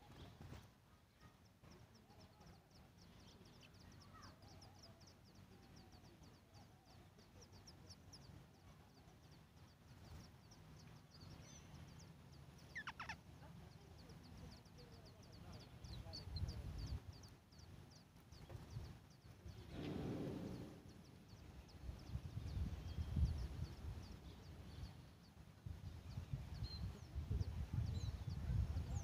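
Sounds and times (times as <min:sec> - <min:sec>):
chicks cheeping rapidly: 0:01.5 - 0:29.0.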